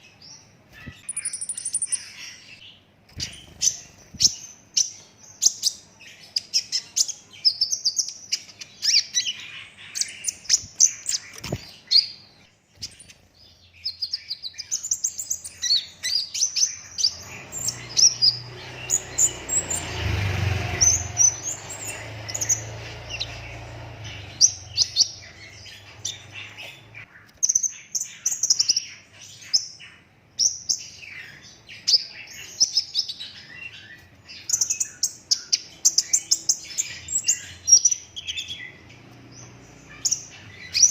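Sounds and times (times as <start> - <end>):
sunbird singing high chirps: 0.0 - 40.9.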